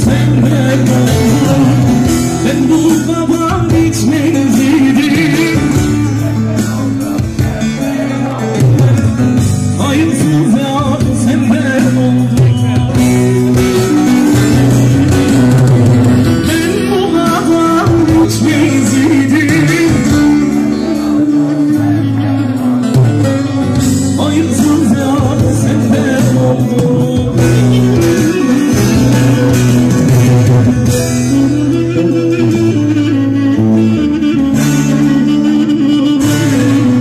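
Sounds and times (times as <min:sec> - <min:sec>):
live band playing instrumental: 0:00.0 - 0:37.0
low bass notes: 0:00.0 - 0:37.0
plucked string instruments: 0:00.0 - 0:37.0.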